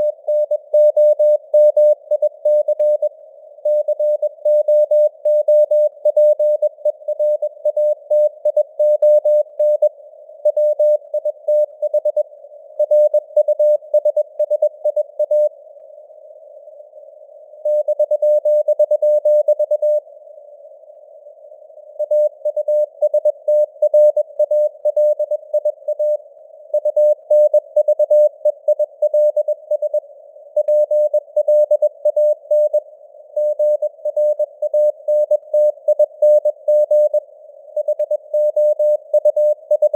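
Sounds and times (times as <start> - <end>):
receiver hiss: 0.0 - 39.9.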